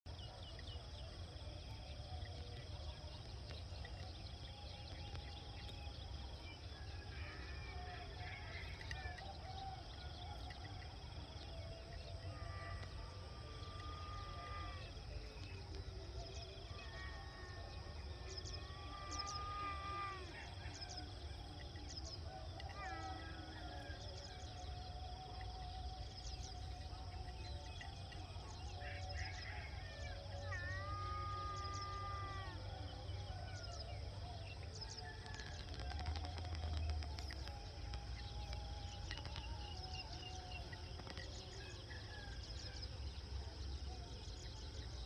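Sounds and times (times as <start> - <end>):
faint insect chirps: 0.1 - 45.0
long held animal calls: 0.3 - 45.0.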